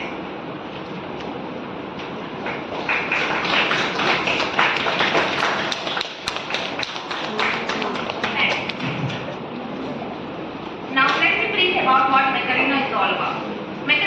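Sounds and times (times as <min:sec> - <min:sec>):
steady noisy background: 0:00.0 - 0:14.0.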